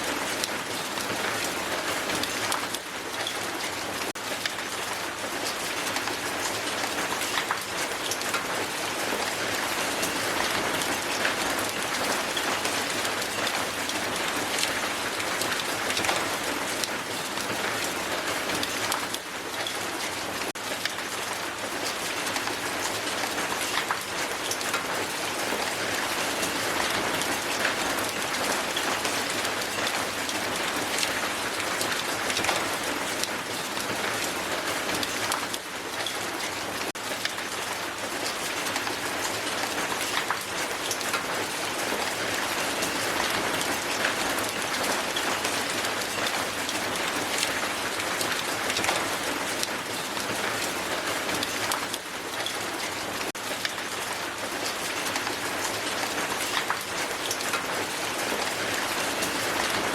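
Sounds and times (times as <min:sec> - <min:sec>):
hail falling on ground: 0:00.0 - 0:59.9.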